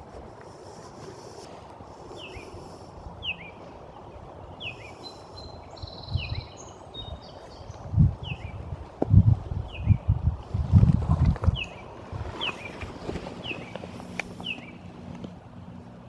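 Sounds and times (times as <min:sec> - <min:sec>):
birds calling: 0:00.0 - 0:16.0
wind rumbling on microphone: 0:00.0 - 0:16.0
songbird chirping: 0:00.4 - 0:08.8, 0:09.4 - 0:10.2, 0:11.2 - 0:16.0.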